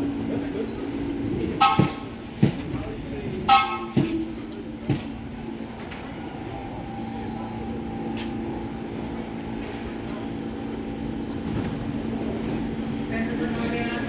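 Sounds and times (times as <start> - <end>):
subway train electric hum: 0.0 - 14.0.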